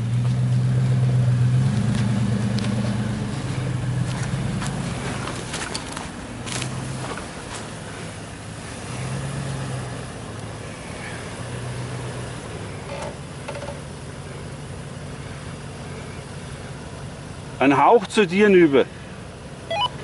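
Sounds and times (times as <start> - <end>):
pickup truck engine at low revs: 0.0 - 20.0.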